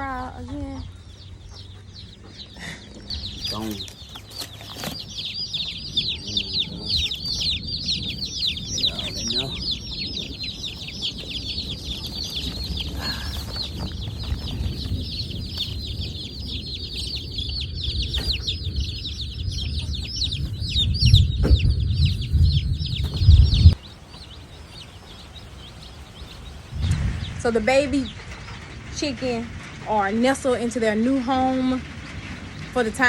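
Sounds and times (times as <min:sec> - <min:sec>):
chicks peeping: 0:00.0 - 0:33.0
low rumble: 0:00.0 - 0:33.0.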